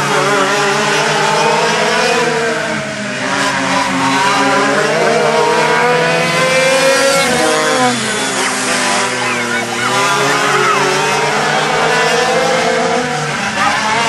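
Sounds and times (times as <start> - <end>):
go-kart engines racing: 0.0 - 14.0.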